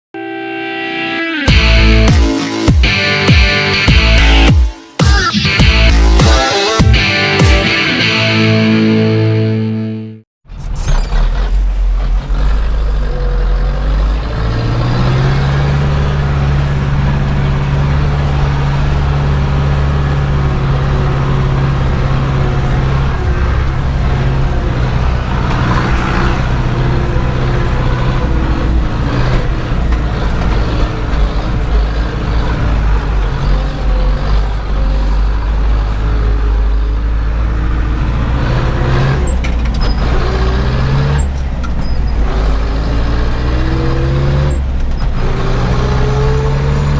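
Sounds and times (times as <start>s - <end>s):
tractor diesel engine running: 0.6s - 9.9s, 10.5s - 46.9s.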